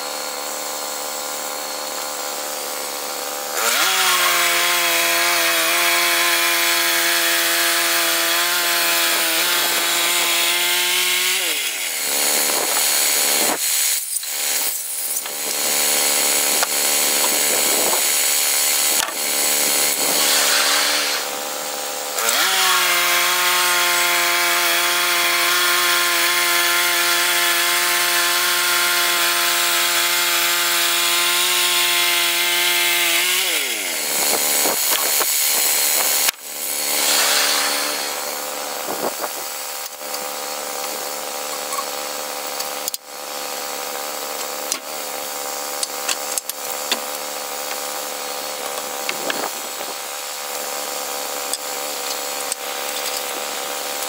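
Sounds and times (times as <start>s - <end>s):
sawmill gas engine running: 0.0s - 54.0s.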